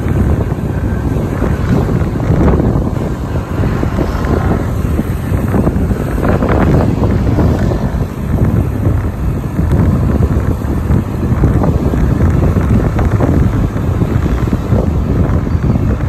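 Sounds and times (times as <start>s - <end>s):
low vehicle rumble: 0.0s - 16.0s
wind buffeting microphone: 0.0s - 16.0s.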